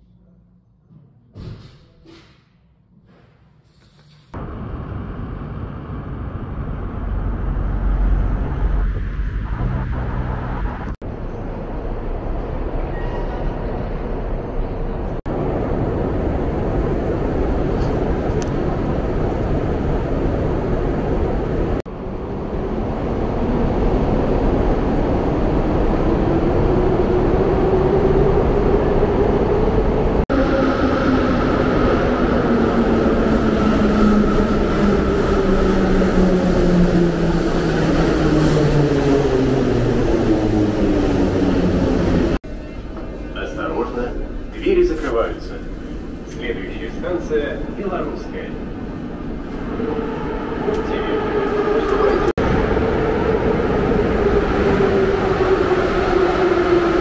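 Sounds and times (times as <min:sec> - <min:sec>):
train rumble: 0:02.9 - 0:57.0.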